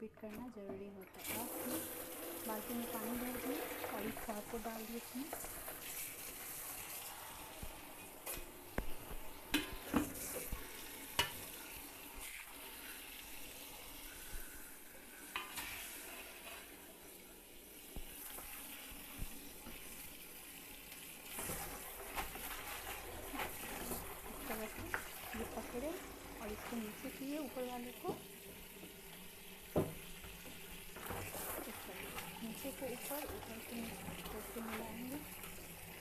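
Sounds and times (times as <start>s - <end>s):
tap water running into bucket: 0.1s - 36.0s.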